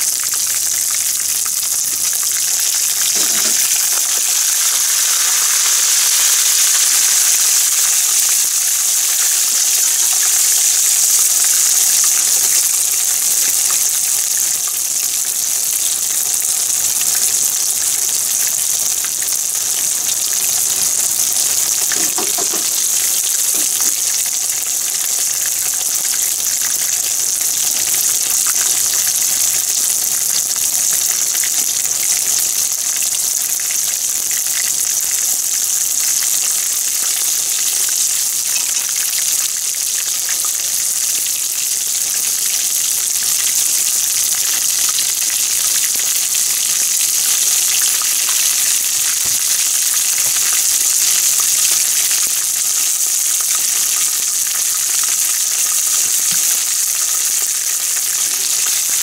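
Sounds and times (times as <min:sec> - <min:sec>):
deep-frying sizzle in hot oil: 0:00.0 - 0:59.0.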